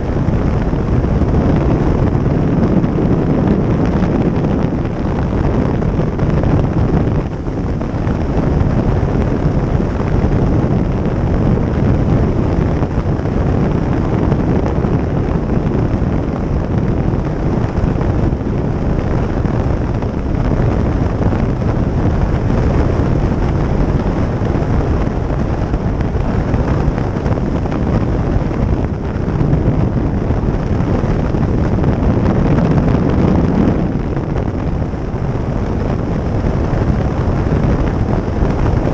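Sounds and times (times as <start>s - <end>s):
road noise: 0.0s - 38.9s
wind rushing over microphone: 0.0s - 38.9s.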